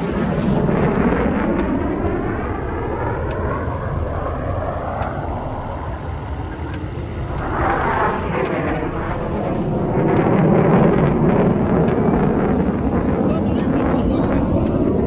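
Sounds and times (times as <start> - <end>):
jet roar with whoosh: 0.0 - 15.0.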